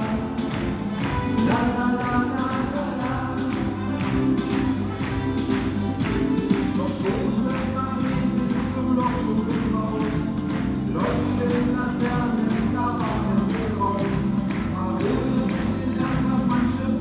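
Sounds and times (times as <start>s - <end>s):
hands clapping in time: 0.0s - 17.0s
lively carnival music: 0.0s - 17.0s.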